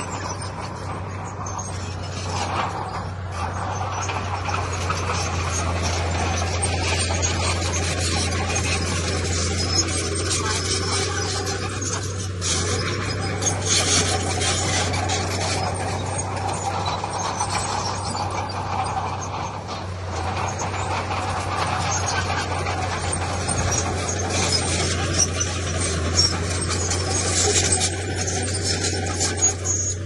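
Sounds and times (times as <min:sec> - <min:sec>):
heavy diesel machinery droning: 0:00.0 - 0:30.0
irregular clatter: 0:00.0 - 0:30.0.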